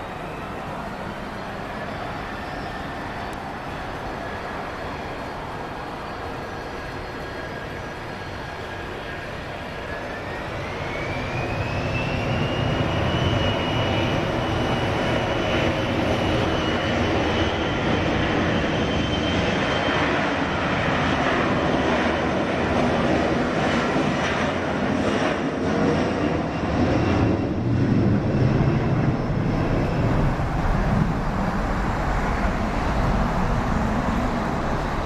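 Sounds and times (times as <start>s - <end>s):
jet engine turbine whine: 0.0s - 35.0s.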